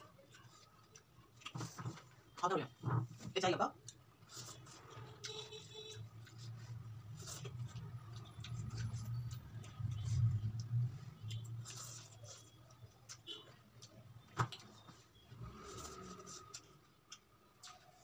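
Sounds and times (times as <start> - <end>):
person chewing: 0.0 - 2.1, 3.7 - 18.0.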